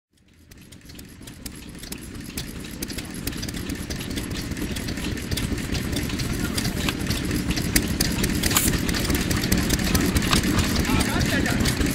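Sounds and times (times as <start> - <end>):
valve gear clicking and clatter: 0.1 - 11.9
engine rumble: 0.2 - 11.9.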